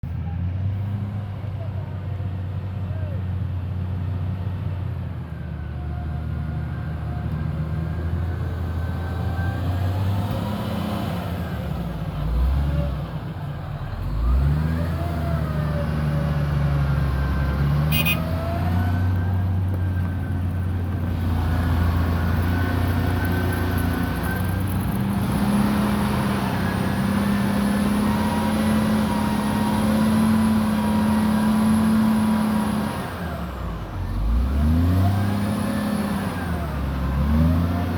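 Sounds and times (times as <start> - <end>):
heavy vehicle engine running: 0.0 - 37.9.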